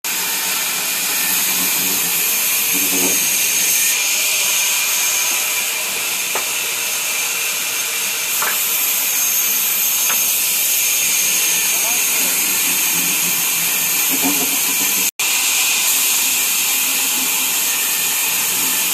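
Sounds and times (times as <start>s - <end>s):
sawmill machinery whining: 0.1s - 18.9s.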